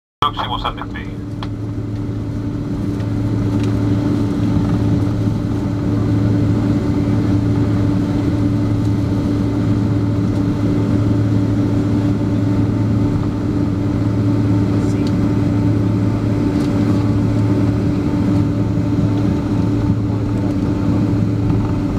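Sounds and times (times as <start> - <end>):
jet engines droning: 0.2 - 21.9.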